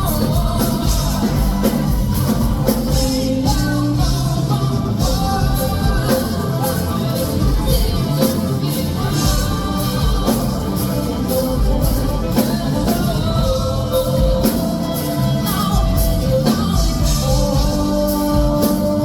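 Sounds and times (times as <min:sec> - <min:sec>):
lead vocal singing: 0:00.0 - 0:19.0
live pop-rock band: 0:00.0 - 0:19.0
steady drumbeat: 0:00.0 - 0:19.0.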